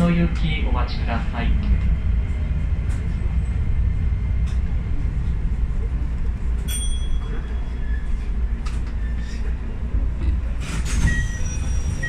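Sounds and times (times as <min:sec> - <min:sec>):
train motors and wheels rumbling: 0:00.0 - 0:12.0.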